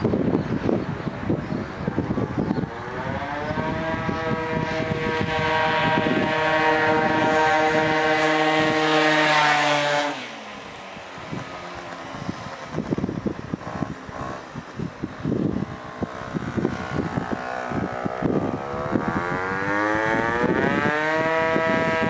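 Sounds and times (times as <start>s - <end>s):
moped engine revving: 1.7s - 22.0s.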